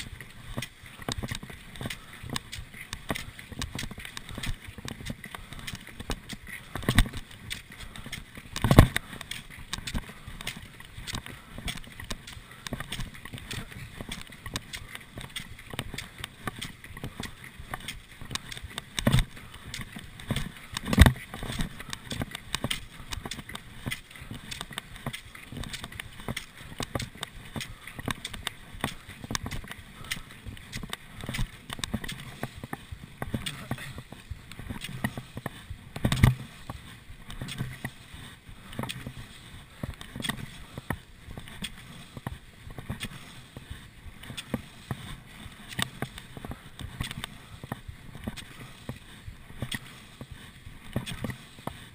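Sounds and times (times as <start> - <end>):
skis and poles knocking snow: 0.0 - 51.9.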